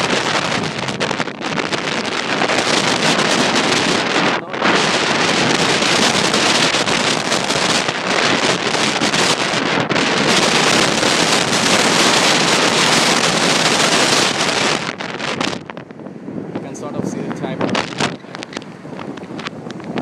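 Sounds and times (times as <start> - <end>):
rapid crackles: 0.0 - 16.0, 16.6 - 20.0
wind buffeting microphone: 0.0 - 20.0.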